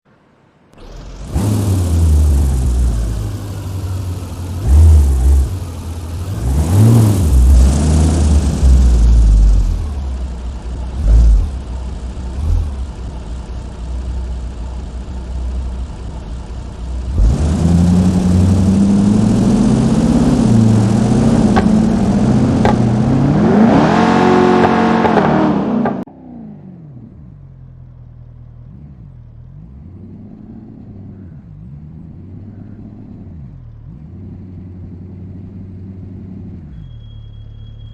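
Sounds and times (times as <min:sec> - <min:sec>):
engine throttle blips: 0:00.1 - 0:37.9
car engines revving: 0:00.2 - 0:37.9.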